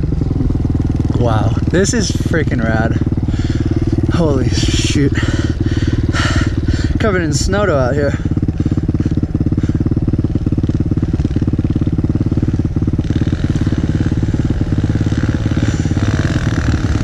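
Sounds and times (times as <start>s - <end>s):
motorbike engine idling: 0.0s - 17.0s
second higher engine: 0.0s - 17.0s.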